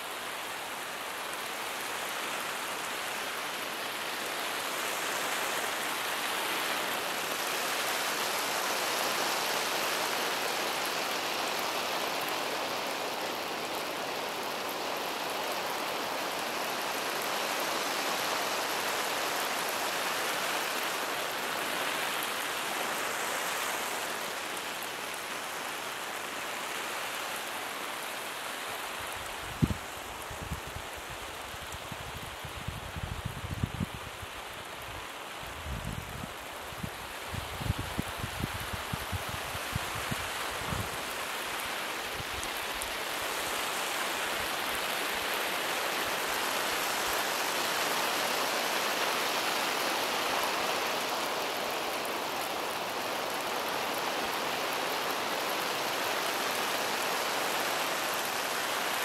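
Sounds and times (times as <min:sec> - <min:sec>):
lawn sprinkler spraying water: 0:00.0 - 0:59.0.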